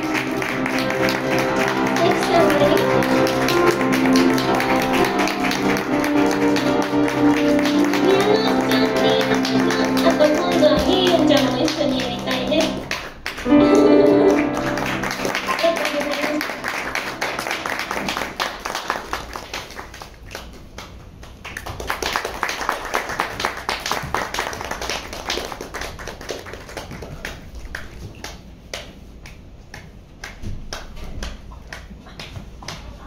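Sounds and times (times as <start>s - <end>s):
audience applause: 0.0s - 27.9s.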